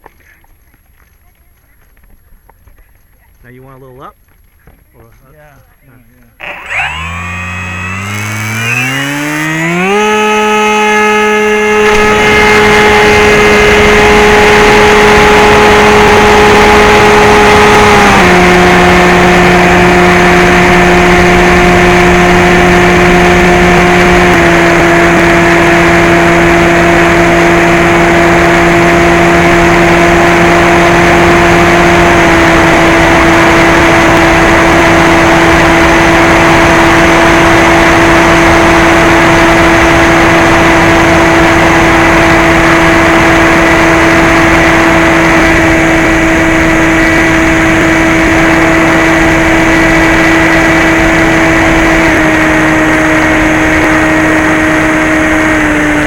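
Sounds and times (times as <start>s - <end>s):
model airplane motor droning: 5.1s - 56.0s.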